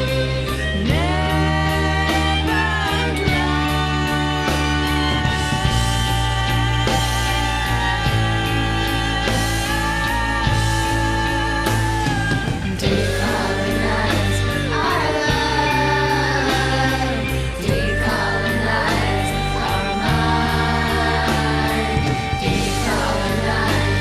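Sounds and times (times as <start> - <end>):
rock song with drums: 0.0 - 24.0
wordless singing: 0.0 - 24.0.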